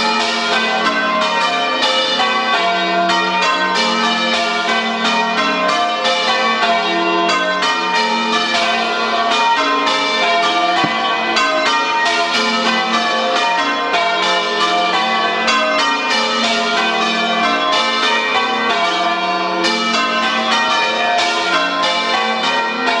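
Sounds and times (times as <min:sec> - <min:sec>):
church bells ringing: 0:00.0 - 0:23.0.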